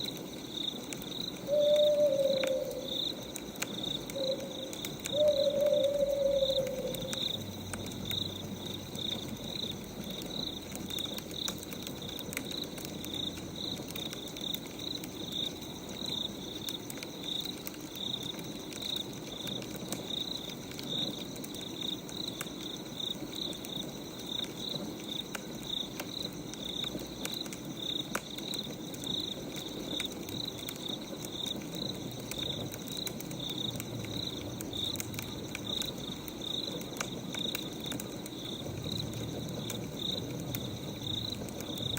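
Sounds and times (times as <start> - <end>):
crickets chirping: 0.0 - 41.9
wood fire crackling: 0.0 - 41.9.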